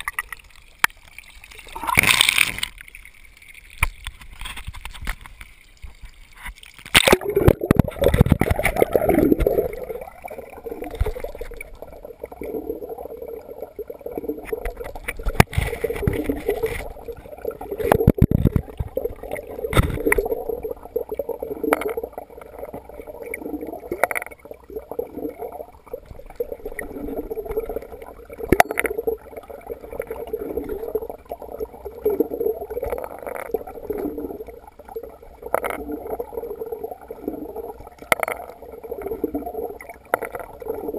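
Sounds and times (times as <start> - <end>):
muffled underwater gurgling: 7.0 - 40.9.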